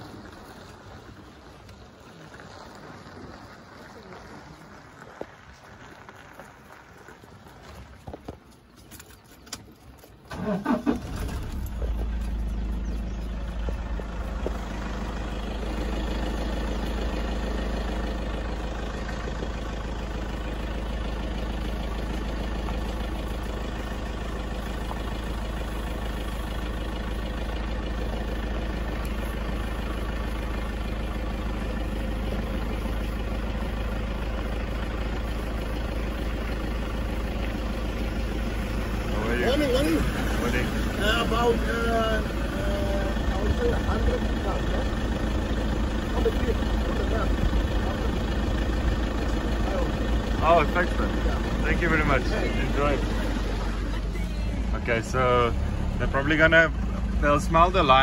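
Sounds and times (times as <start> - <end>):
vehicle engine starting and running: 0.0 - 58.0.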